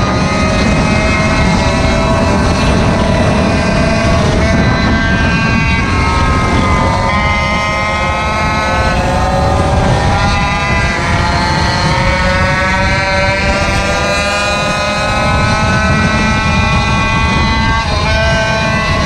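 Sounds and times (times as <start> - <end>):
small gasoline engine running: 0.0 - 19.0
wind buffeting microphone: 0.0 - 19.0.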